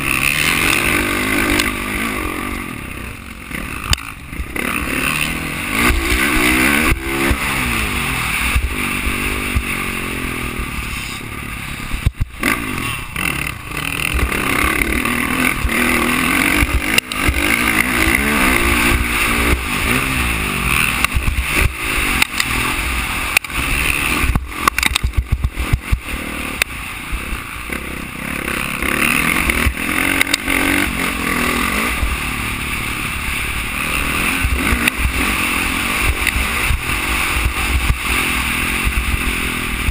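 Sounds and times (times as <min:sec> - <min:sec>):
dirt bike engine revving: 0:00.0 - 0:39.9
wind and track noise: 0:00.0 - 0:39.9.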